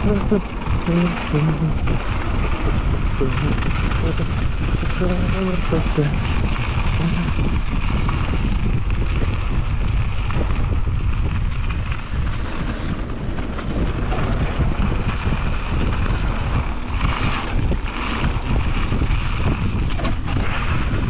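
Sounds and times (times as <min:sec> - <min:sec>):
bike rolling on dirt: 0:00.0 - 0:21.0
wind buffeting microphone: 0:00.0 - 0:21.0.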